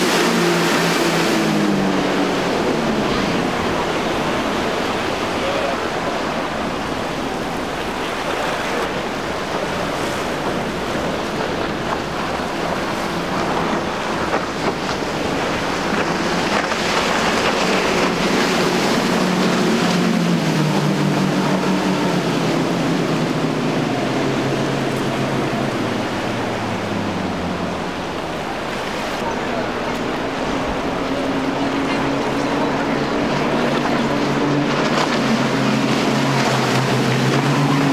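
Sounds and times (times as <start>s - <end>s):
boat outboard motors droning: 0.0s - 37.9s
rushing water from waves: 0.0s - 37.9s.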